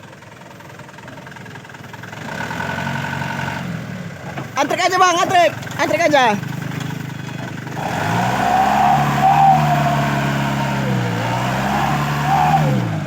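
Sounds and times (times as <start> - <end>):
truck diesel engine revving: 1.4 - 13.0.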